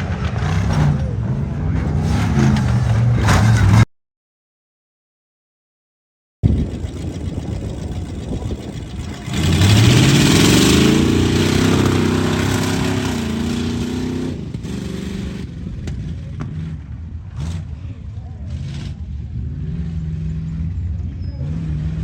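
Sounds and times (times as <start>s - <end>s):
truck engine revving: 0.0s - 3.9s, 6.4s - 22.0s.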